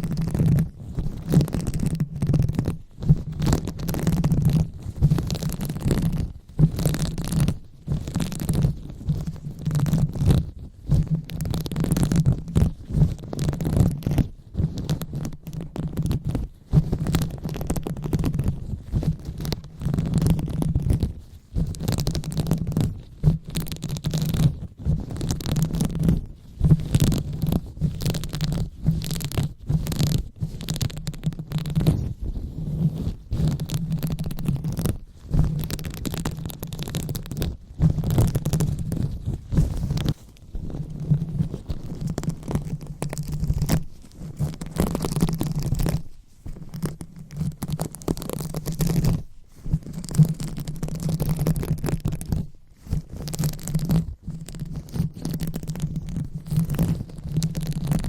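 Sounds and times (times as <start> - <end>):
hands rubbing on microphone: 0.0 - 58.0.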